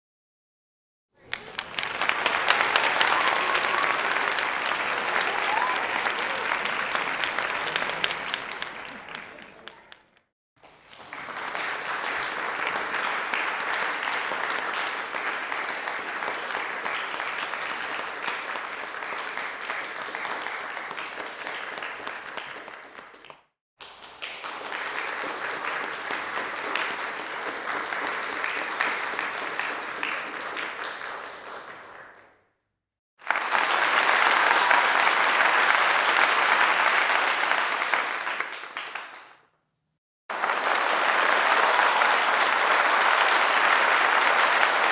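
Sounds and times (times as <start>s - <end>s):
audience clapping: 1.2s - 32.4s, 33.2s - 39.5s, 40.3s - 44.9s.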